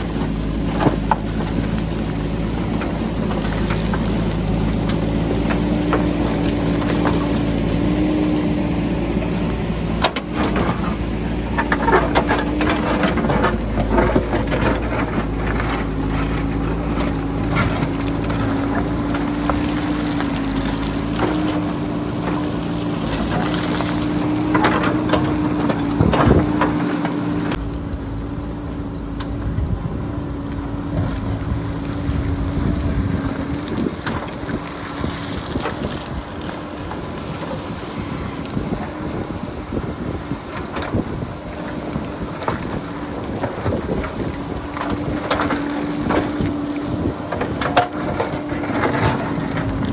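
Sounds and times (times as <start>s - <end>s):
diesel engine under load: 0.0s - 49.9s
wind buffeting microphone: 0.0s - 49.9s.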